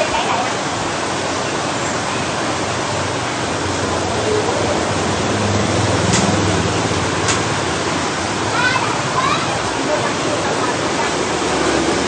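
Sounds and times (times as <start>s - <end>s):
water rushing in aquarium: 0.0s - 12.0s.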